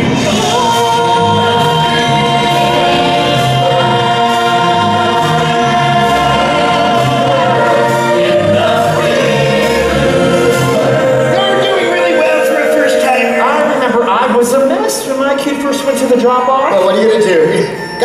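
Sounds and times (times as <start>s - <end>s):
instrumental backing with bass line: 0.0s - 15.1s
chorus singing held chords: 0.0s - 18.0s.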